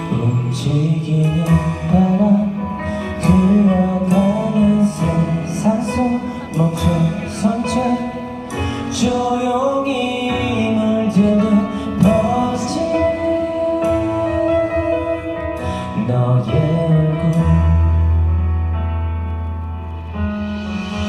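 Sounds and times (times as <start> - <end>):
man singing a slow ballad: 0.0 - 18.6
backing music: 0.0 - 21.0.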